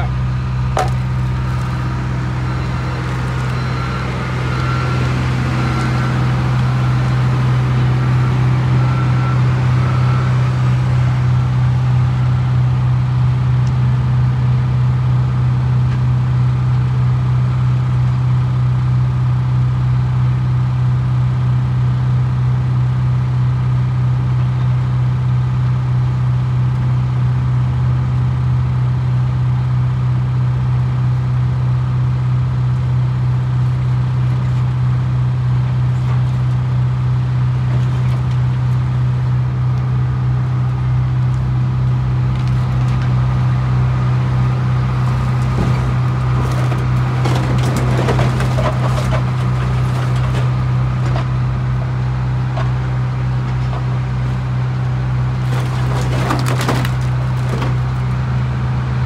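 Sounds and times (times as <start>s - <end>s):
machinery engine droning: 0.0s - 59.0s.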